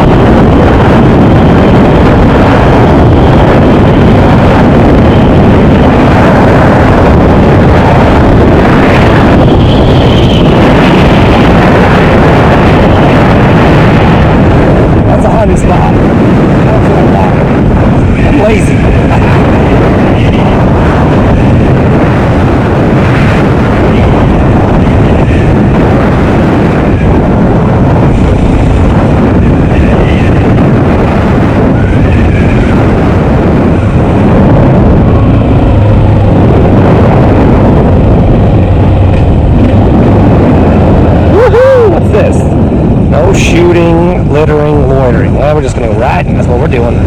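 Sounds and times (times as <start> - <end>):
wind on microphone: 0.0 - 47.0.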